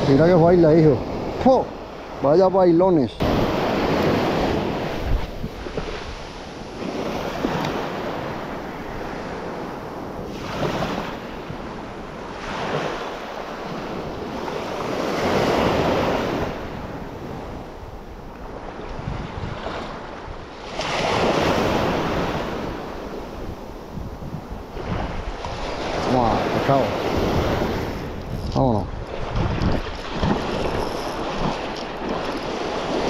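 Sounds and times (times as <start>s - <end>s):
sea waves breaking: 0.0s - 33.0s
wind on microphone: 0.0s - 33.0s.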